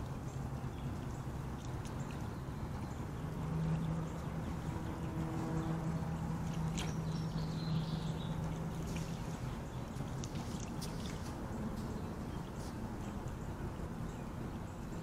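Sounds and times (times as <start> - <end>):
creek trickling: 0.0 - 15.0
hooves splashing in water: 0.0 - 15.0
low steady hum: 0.0 - 15.0.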